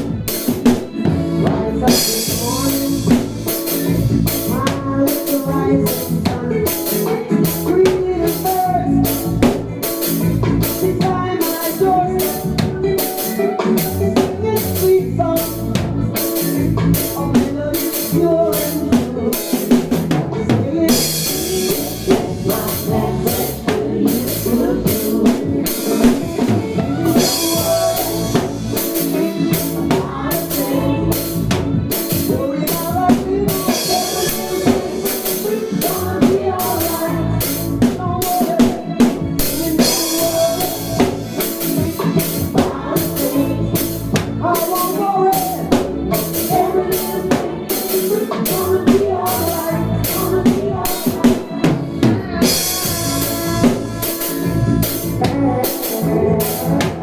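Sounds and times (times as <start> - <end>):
drum kit groove: 0.0 - 57.0
reggae backing track: 0.0 - 57.0.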